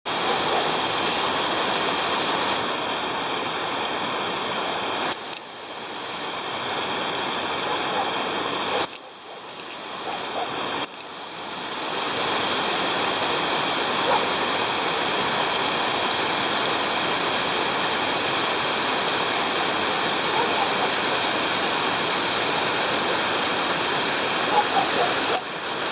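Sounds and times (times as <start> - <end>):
waterfall rushing: 0.1 - 25.9.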